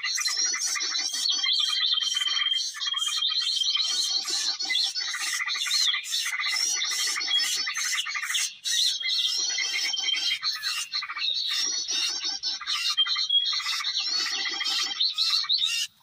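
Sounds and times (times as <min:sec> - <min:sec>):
bird whistles: 0:00.0 - 0:15.9
small songbirds chattering: 0:00.0 - 0:16.0.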